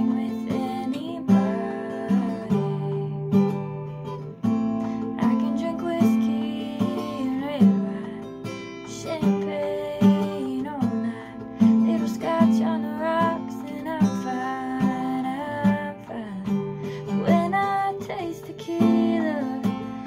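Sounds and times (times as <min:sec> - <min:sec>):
woman singing: 0:00.0 - 0:03.8, 0:04.5 - 0:20.0
acoustic guitar strummed: 0:00.0 - 0:20.0.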